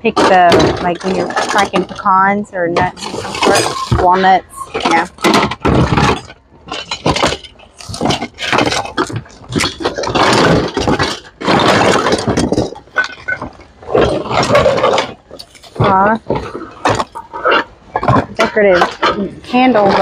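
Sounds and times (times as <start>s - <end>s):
household items clinking and clattering: 0.0s - 20.0s.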